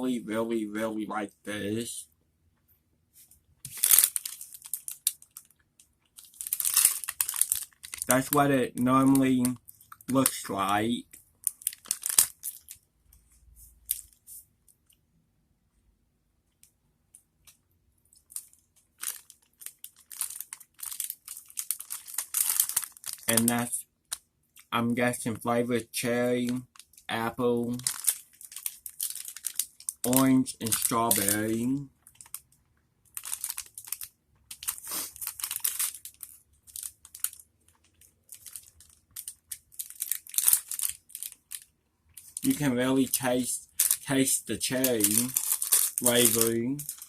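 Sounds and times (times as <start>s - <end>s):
plastic wrapper crinkling: 3.6s - 15.0s, 17.4s - 25.2s, 26.0s - 47.0s.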